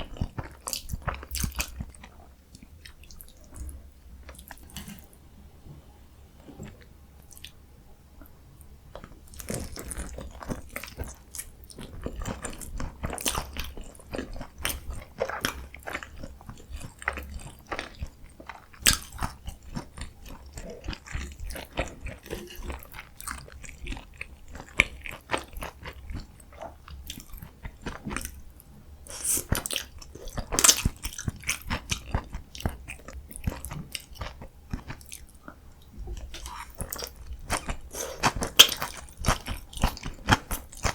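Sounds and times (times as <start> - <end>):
chewing and crunching: 0.0 - 5.0, 8.9 - 40.9.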